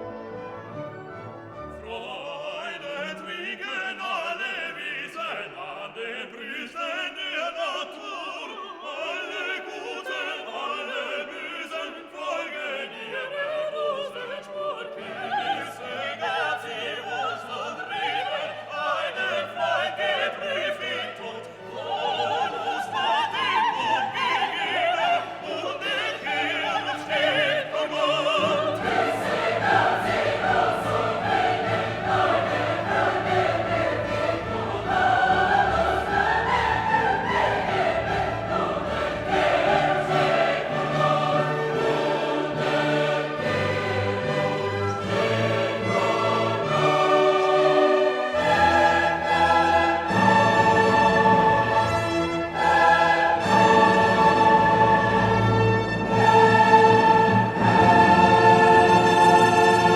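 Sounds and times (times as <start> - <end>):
operatic voice with choir and orchestra: 0.0 - 59.9.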